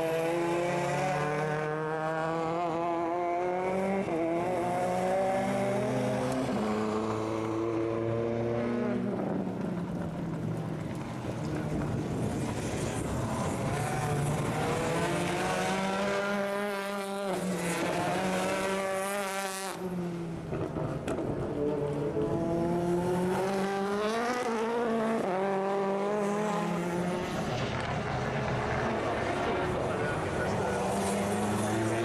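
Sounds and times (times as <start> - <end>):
racing car engines accelerating: 0.0 - 32.0.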